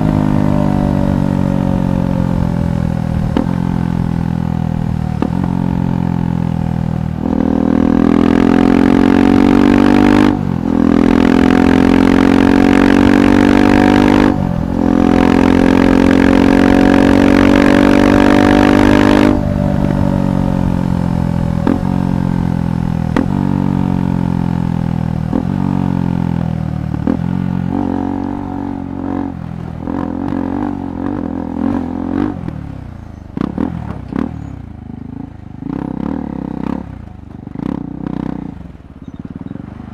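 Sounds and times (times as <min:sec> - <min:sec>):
exhaust crackles: 0:00.0 - 0:34.4
motorcycle engine accelerating: 0:00.0 - 0:39.9.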